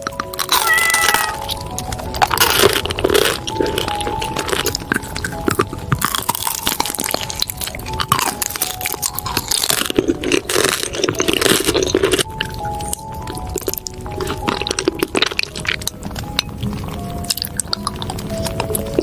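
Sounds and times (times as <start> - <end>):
food being crunched and chewed: 0.0 - 19.0.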